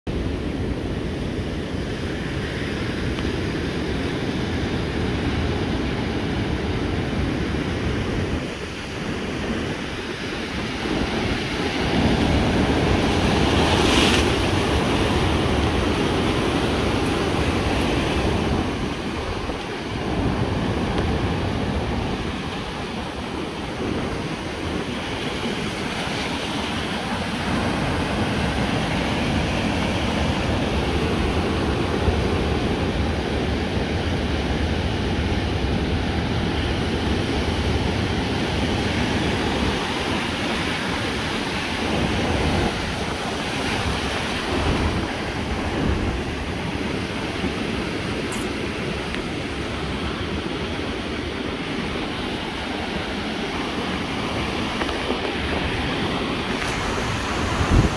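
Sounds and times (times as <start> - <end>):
wind buffeting microphone: 0.1 - 57.9
surf breaking on shore: 0.2 - 57.9.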